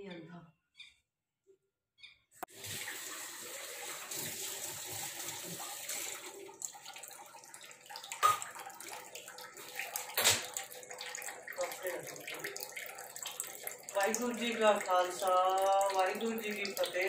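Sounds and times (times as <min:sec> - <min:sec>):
tap water running into sink: 0:02.5 - 0:17.0.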